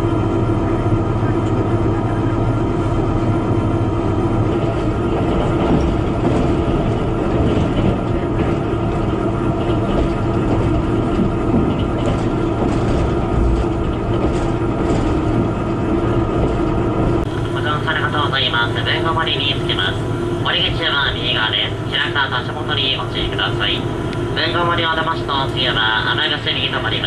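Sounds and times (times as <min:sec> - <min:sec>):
railcar interior drone: 0:00.0 - 0:27.0
wheel-on-rail noise: 0:00.3 - 0:27.0.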